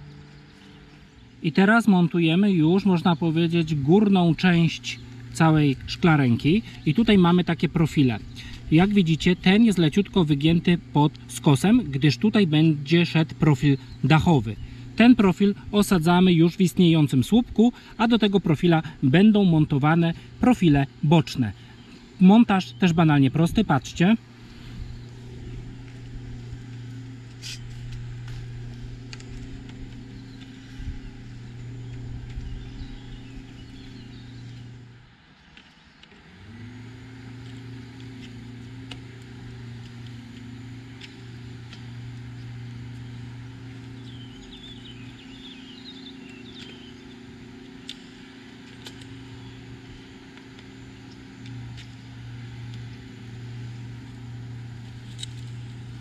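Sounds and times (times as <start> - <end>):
birds chirping: 0.0 - 36.3, 37.0 - 56.0
low motor hum: 0.0 - 56.0.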